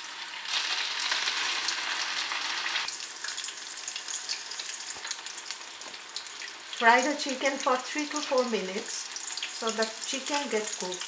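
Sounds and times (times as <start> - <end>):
chicken frying in hot oil: 0.0 - 11.0.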